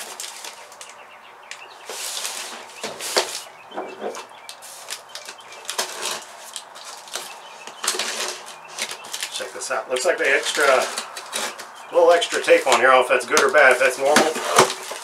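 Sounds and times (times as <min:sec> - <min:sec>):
cardboard rustling and tape tearing: 0:00.0 - 0:01.0, 0:01.8 - 0:03.5, 0:04.1 - 0:15.0.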